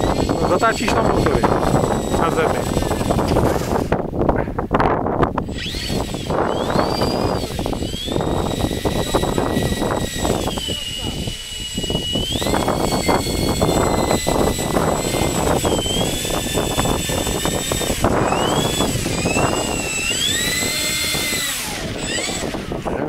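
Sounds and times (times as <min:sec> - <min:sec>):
model airplane propellers whining: 0:00.0 - 0:04.1, 0:05.4 - 0:23.0.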